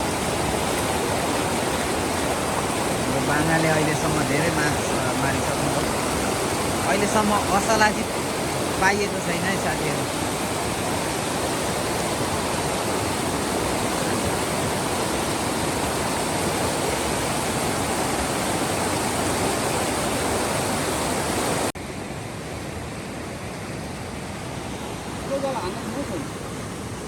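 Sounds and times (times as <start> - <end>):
fast river rushing: 0.0 - 27.0.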